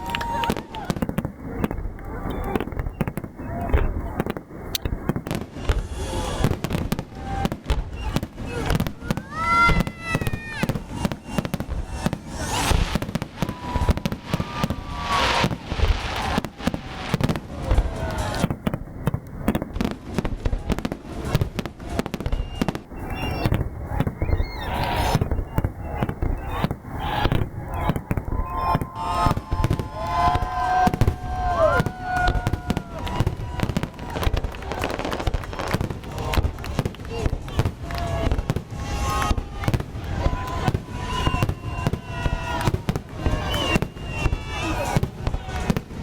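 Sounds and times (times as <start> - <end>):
fireworks bangs and crackling: 0.0 - 46.0
whistling fireworks: 0.0 - 46.0.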